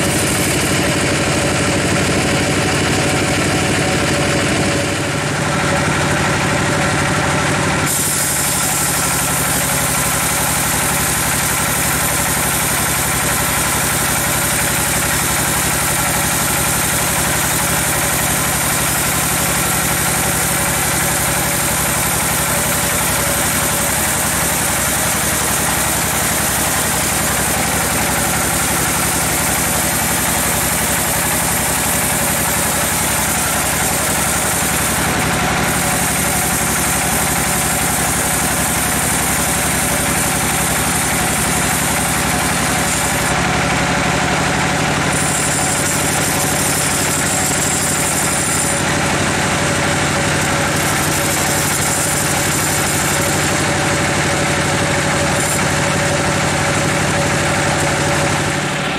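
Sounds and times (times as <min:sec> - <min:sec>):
bandsaw sawing log: 0:00.0 - 0:58.9.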